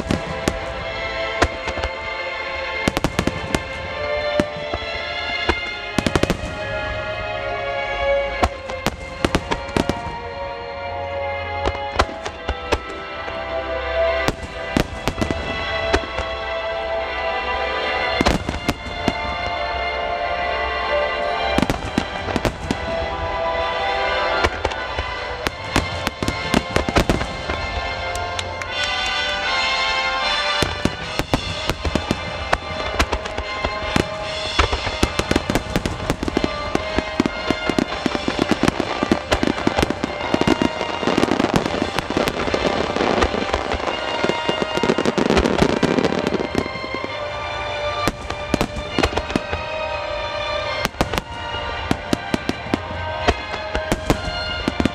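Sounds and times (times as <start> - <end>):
fireworks bursting and crackling: 0.0 - 54.9
music playing: 0.0 - 54.9.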